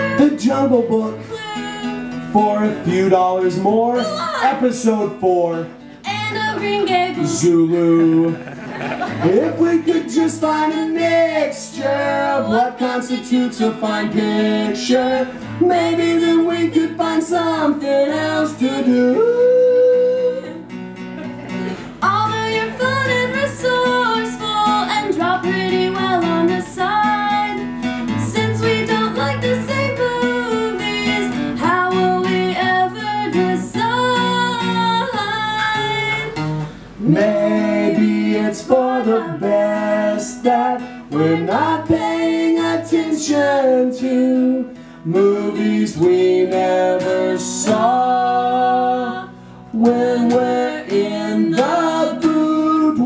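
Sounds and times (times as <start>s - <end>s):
man and woman singing: 0.0s - 20.7s, 21.4s - 53.0s
acoustic guitar strumming: 0.0s - 53.0s.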